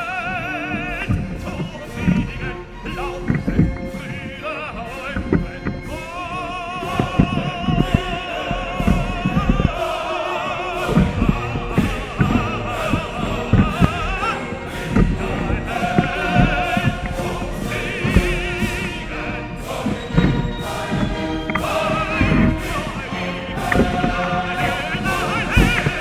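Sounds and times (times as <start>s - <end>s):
operatic singing: 0.0s - 26.0s
orchestral backing: 0.0s - 26.0s.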